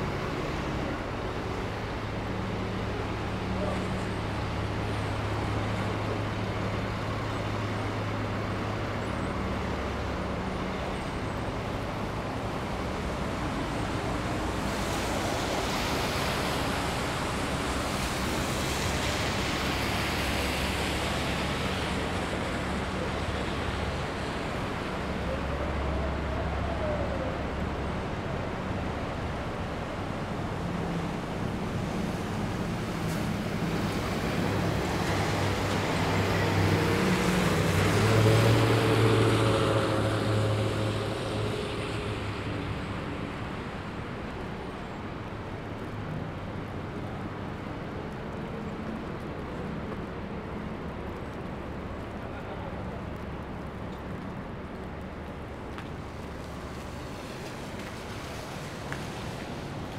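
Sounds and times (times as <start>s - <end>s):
low hum of traffic engines: 0.0s - 59.9s.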